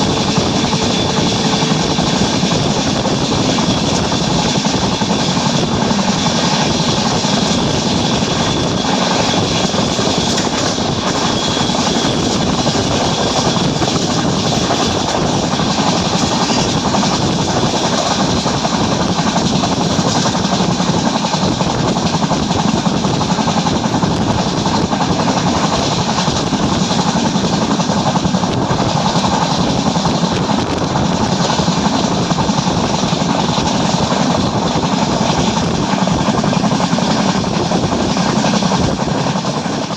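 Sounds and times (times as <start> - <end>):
diesel train rumbling at speed: 0.0 - 39.9.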